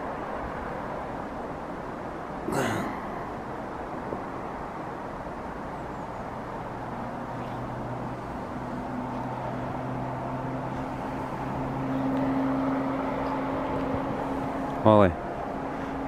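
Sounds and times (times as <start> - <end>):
distant engine drone: 0.0 - 16.0.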